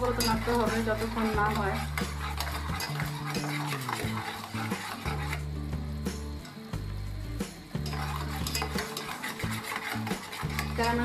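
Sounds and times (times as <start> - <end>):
spatula scraping a steel pot: 0.0 - 5.8, 7.7 - 11.0
boiling syrup sizzling: 0.0 - 11.0.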